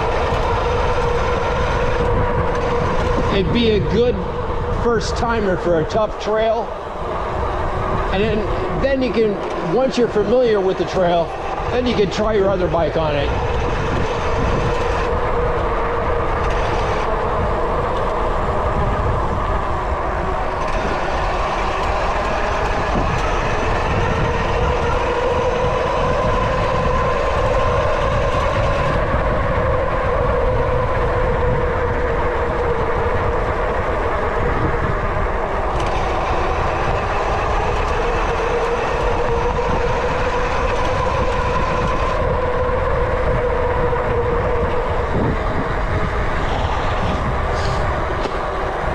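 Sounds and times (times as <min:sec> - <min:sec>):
bike tyres humming: 0:00.0 - 0:48.9
wind on microphone: 0:00.0 - 0:48.9.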